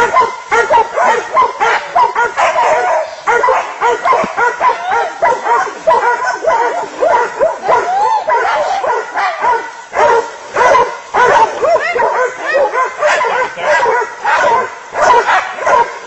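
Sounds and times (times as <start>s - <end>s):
dogs barking and yelping: 0.0s - 16.0s.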